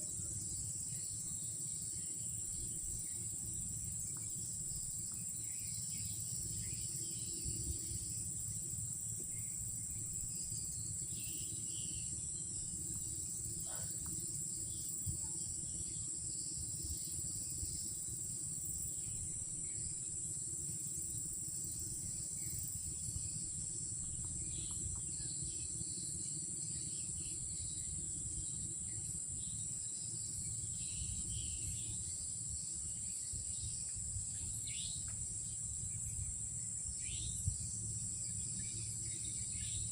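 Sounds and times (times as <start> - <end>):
crickets chirping drone: 0.0 - 39.9
low rumbling background noise: 0.0 - 39.9.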